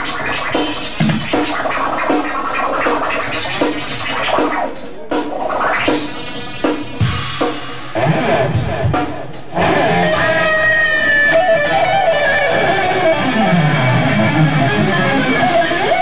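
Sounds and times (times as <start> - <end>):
live band with electric guitar: 0.0 - 16.0.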